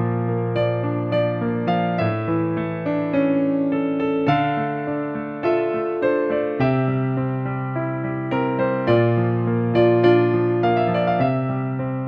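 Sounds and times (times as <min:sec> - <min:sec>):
electric piano melody: 0:00.0 - 0:12.0.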